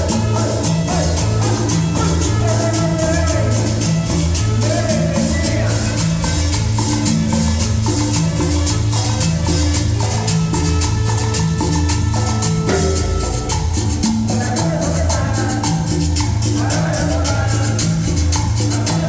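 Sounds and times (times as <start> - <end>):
latin dance music: 0.0 - 19.0
shaker percussion: 0.0 - 19.0.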